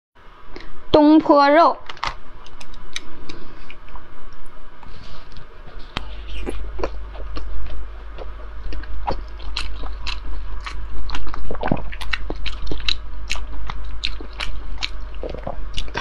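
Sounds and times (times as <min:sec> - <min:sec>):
person chewing with mouth smacks: 0:02.0 - 0:16.0.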